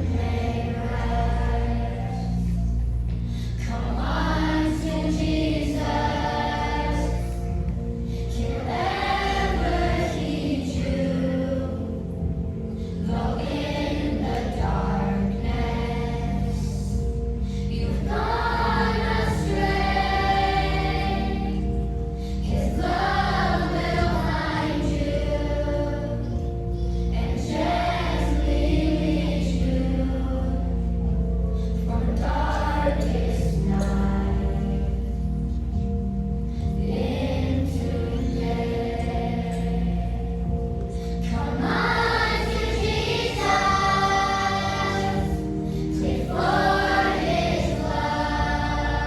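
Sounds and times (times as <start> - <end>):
youth choir singing: 0.0 - 2.9, 3.5 - 17.1, 17.7 - 26.4, 27.1 - 30.8, 31.9 - 35.1, 36.8 - 40.5, 41.2 - 49.0.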